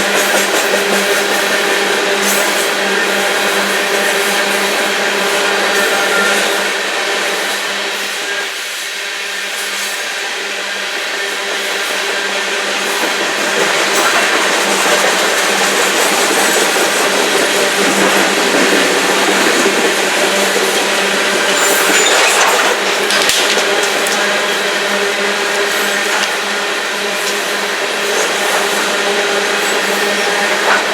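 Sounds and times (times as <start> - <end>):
train wheels on rail: 0.0 - 30.9.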